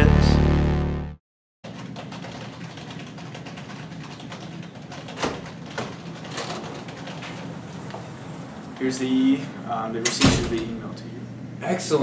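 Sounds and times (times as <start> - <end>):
room hum: 1.7 - 12.0.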